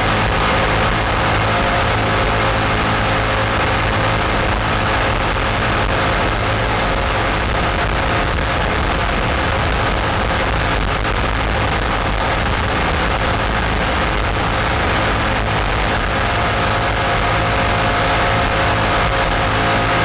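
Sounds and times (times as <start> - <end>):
boat engine running hard: 0.0 - 20.0.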